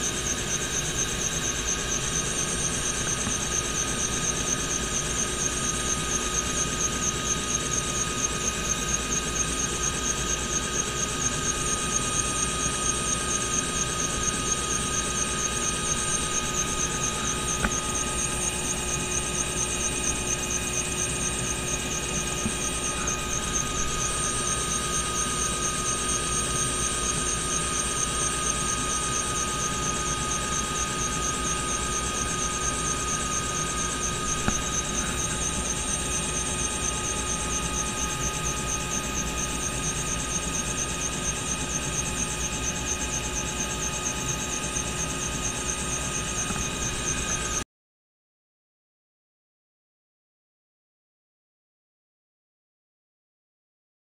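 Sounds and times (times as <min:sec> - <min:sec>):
helicopter turbine and rotor: 0:00.0 - 0:47.6.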